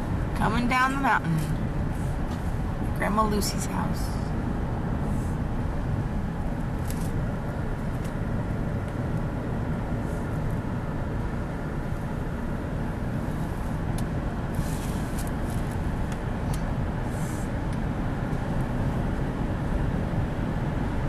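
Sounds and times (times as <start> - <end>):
car driving low rumble: 0.0 - 21.0.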